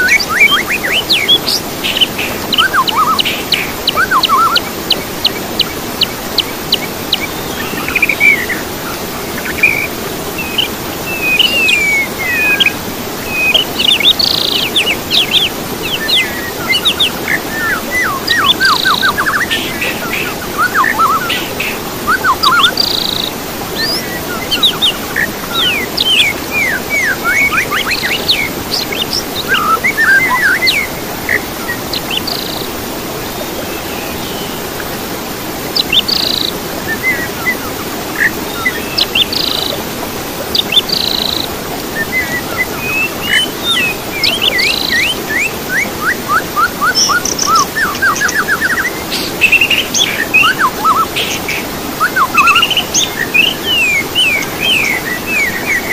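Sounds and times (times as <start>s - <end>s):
songbird singing: 0.0s - 34.9s, 35.7s - 55.9s.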